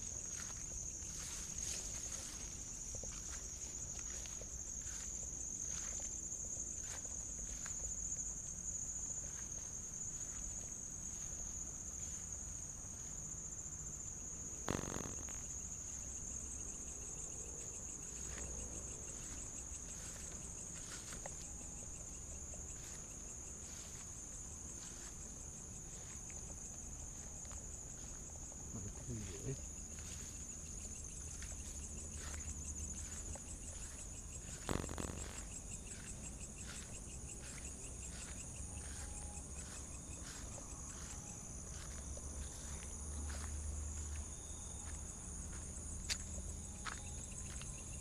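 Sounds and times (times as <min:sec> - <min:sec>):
crickets chirring: 0:00.0 - 0:48.0.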